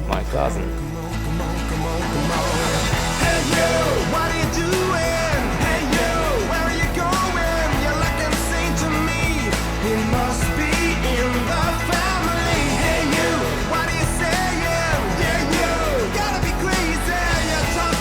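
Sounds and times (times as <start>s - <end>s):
rock song with vocals: 0.0s - 18.0s.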